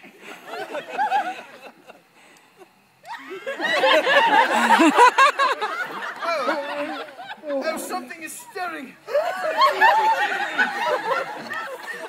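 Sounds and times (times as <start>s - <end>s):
audience laughing: 0.0s - 2.1s, 3.1s - 8.1s, 9.0s - 12.0s.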